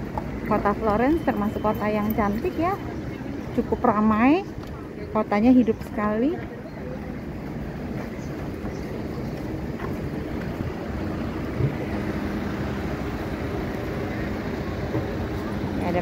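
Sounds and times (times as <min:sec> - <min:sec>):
city traffic rumble: 0:00.0 - 0:16.0.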